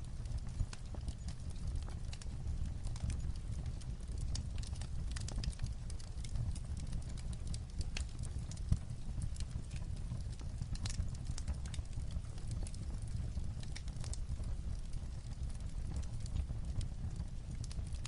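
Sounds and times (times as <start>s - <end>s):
light rain on a roof: 0.0s - 18.0s
wood fire crackling: 0.0s - 18.0s.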